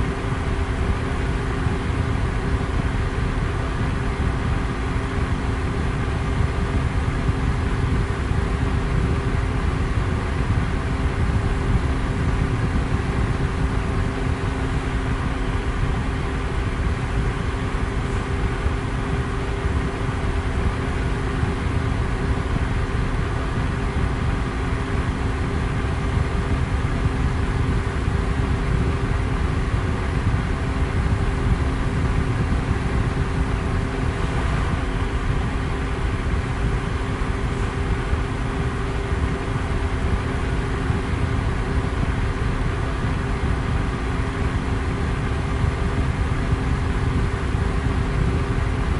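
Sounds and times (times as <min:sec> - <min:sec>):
electric fan air rush: 0:00.0 - 0:48.9
faint motor hum: 0:00.0 - 0:48.9.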